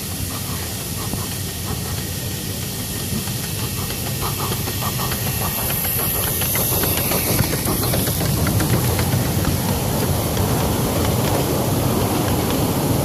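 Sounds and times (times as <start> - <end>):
steam hissing: 0.0 - 13.0
wheels rumbling on track: 0.0 - 13.0.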